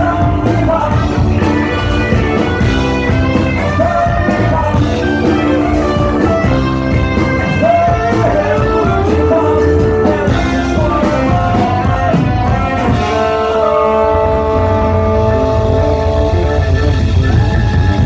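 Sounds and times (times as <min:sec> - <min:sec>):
live rock band playing: 0:00.0 - 0:18.0
person singing long notes: 0:00.0 - 0:18.0.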